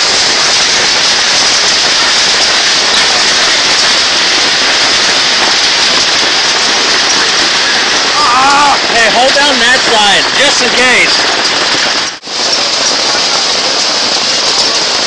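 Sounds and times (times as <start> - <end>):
hail and rain pelting: 0.0 - 15.0.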